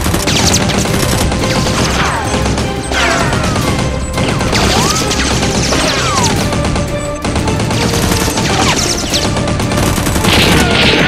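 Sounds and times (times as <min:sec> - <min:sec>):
background music: 0:00.0 - 0:11.0
gunfire sound effects: 0:00.0 - 0:11.0.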